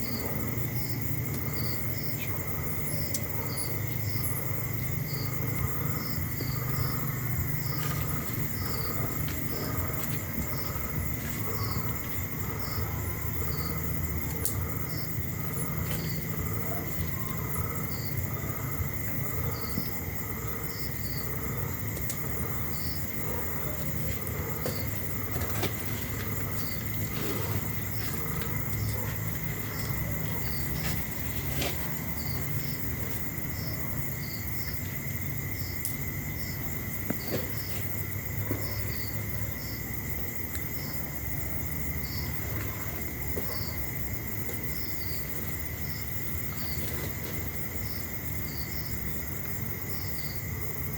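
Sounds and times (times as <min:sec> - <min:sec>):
crickets trilling: 0:00.0 - 0:50.9
steady low hum: 0:00.0 - 0:50.9.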